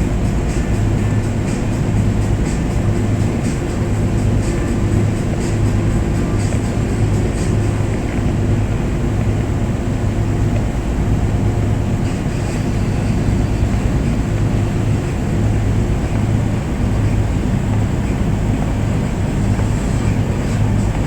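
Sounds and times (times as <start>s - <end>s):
boat engine humming: 0.0s - 21.0s
rush of noise: 0.0s - 21.0s.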